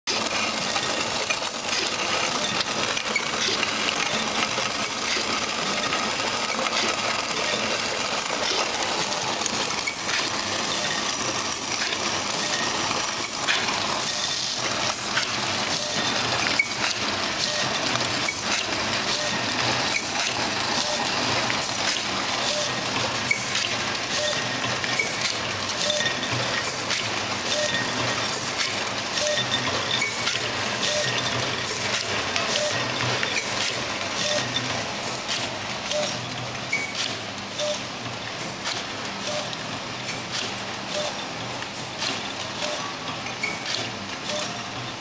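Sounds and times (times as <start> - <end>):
packing machine hissing and humming: 0.1 - 45.0.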